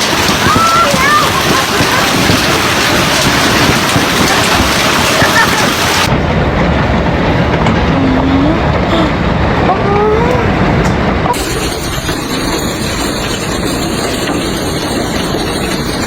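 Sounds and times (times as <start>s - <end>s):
hail and rain pelting down: 0.0s - 16.0s.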